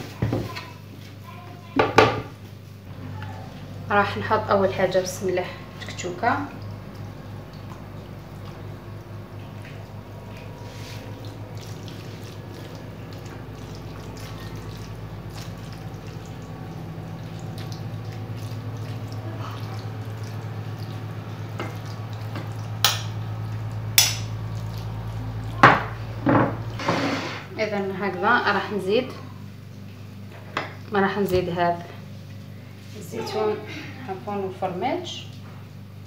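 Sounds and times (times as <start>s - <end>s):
steady low hum: 0.7s - 36.0s.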